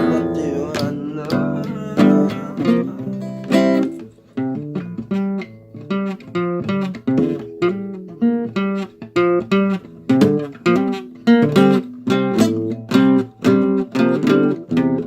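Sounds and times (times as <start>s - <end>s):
acoustic guitar plucked chords: 0.0s - 15.0s.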